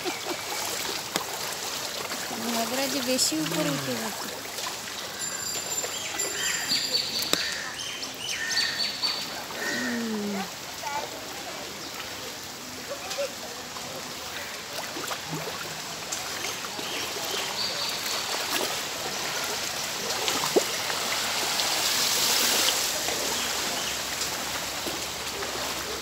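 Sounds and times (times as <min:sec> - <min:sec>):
feet wading through water: 0:00.0 - 0:26.0.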